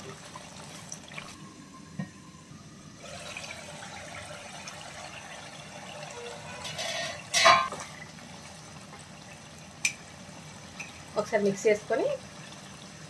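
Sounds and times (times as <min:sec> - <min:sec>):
prawns bubbling and sizzling in pan: 0:00.0 - 0:01.7, 0:02.8 - 0:13.0.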